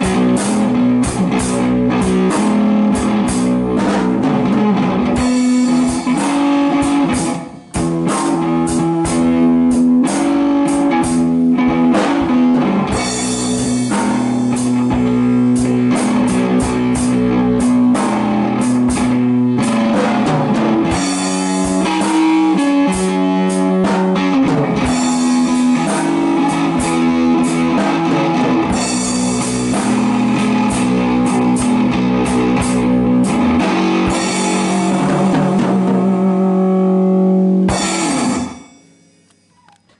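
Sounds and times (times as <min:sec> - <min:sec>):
electric guitar blues riff: 0:00.0 - 0:38.7
drums keeping time: 0:00.0 - 0:39.6.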